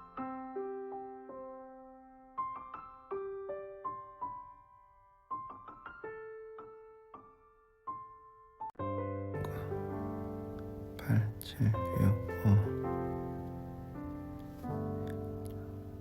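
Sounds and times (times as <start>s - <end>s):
soft solo piano: 0.0s - 16.0s.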